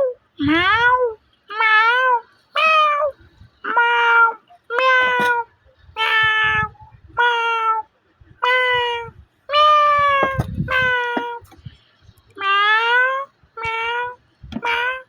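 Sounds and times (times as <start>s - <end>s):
cat meowing: 0.0s - 11.6s, 12.3s - 15.0s.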